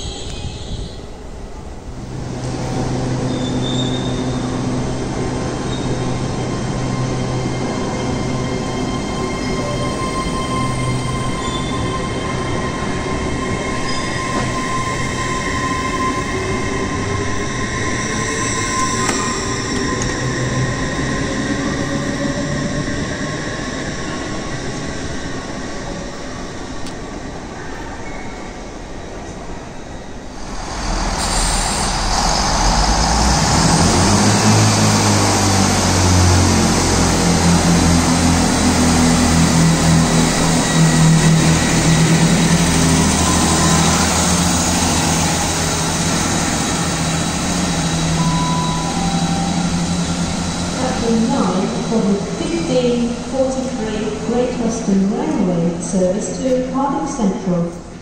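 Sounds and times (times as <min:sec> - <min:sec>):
train moving through station: 0:00.0 - 0:58.0.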